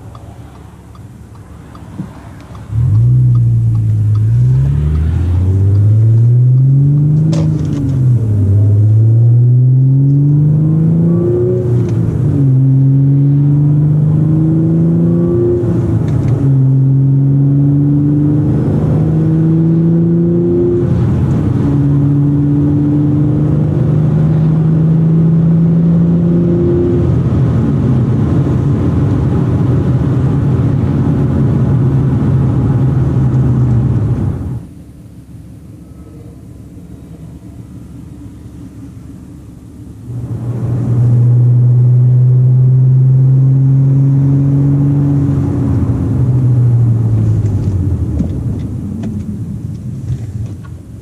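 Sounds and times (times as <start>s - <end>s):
car engine accelerating hard: 1.4s - 34.7s, 35.7s - 51.0s.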